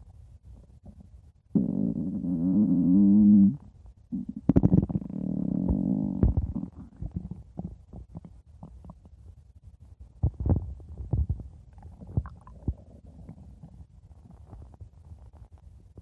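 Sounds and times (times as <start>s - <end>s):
stomach growling: 0.6s - 9.2s, 10.2s - 16.0s.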